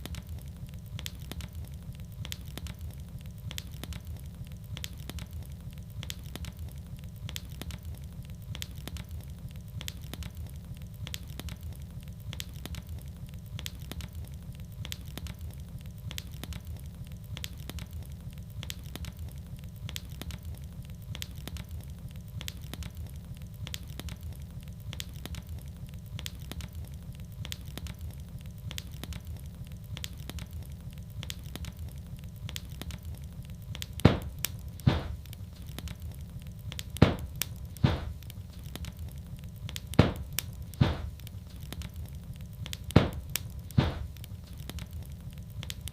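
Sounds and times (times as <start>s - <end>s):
sharp pops of fire: 0.0s - 45.9s
wood fire crackling: 0.0s - 45.9s.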